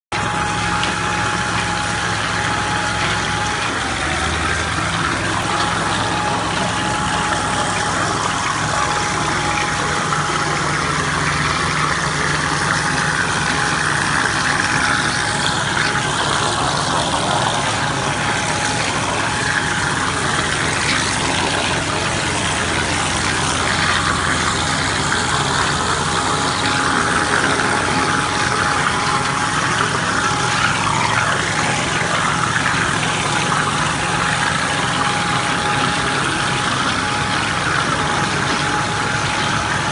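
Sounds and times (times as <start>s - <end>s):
plastering equipment engine running: 0.1s - 39.9s
thin whine: 0.1s - 39.9s.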